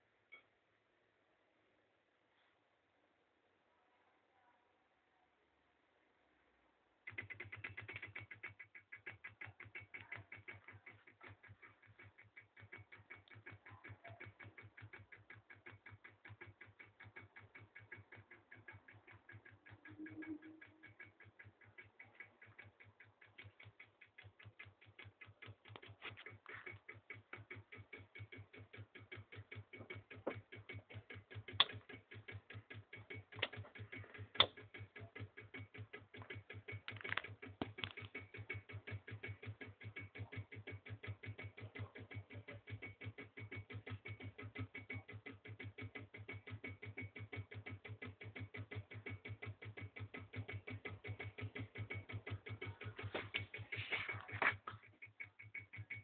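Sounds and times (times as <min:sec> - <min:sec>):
motor clicking rapidly: 0:07.0 - 0:56.0.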